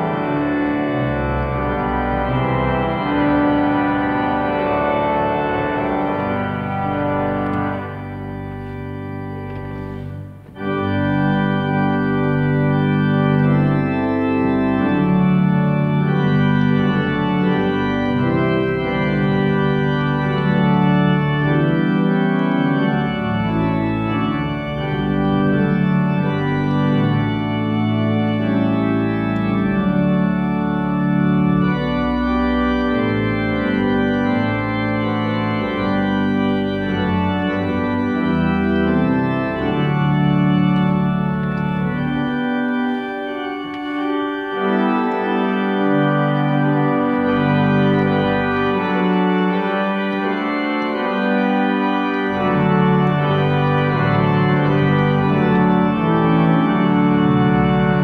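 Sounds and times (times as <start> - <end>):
pipe organ playing chords: 0.0 - 58.0.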